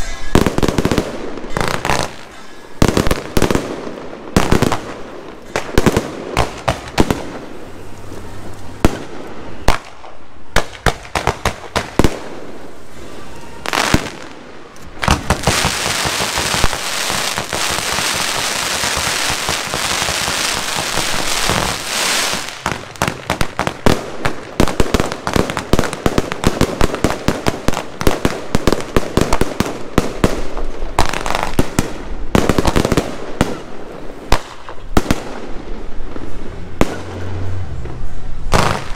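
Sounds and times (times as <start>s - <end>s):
fireworks bangs: 0.0s - 38.9s
fireworks crackling: 0.0s - 38.9s.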